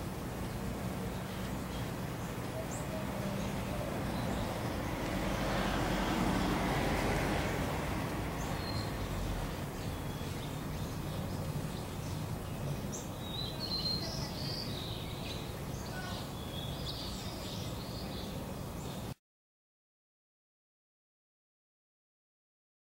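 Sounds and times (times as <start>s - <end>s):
distant car traffic rumble: 0.0s - 19.1s
small birds chirping: 0.0s - 19.2s.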